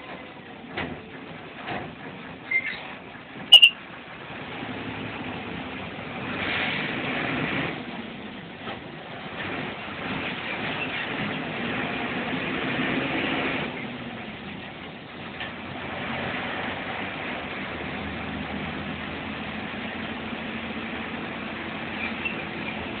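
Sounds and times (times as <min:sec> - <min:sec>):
heavy vehicle engine and road noise: 0:00.0 - 0:23.0.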